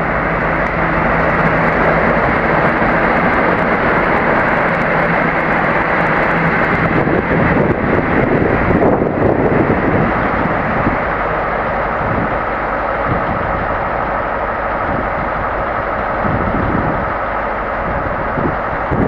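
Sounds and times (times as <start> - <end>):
diesel locomotive engines: 0.0 - 19.0
steady whine: 0.0 - 19.0.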